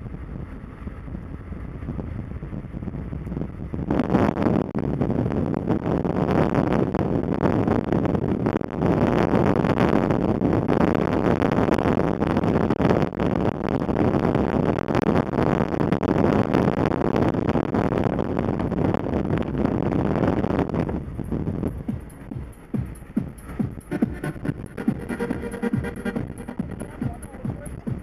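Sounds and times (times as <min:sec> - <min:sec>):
car engine rumbling: 0:00.0 - 0:28.0
tyres rumbling on road: 0:00.0 - 0:28.0
wind buffeting microphone: 0:00.0 - 0:28.0.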